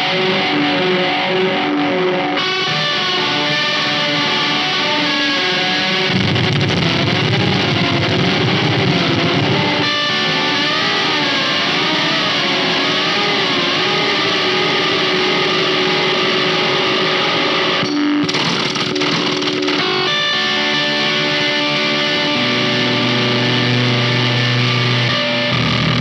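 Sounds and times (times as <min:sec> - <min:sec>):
electric guitar wobbling notes: 0:00.0 - 0:26.0.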